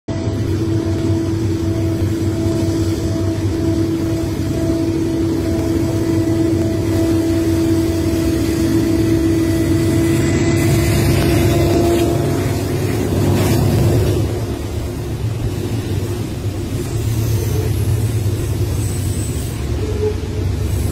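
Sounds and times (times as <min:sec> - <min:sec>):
diesel locomotives passing: 0:00.1 - 0:20.9.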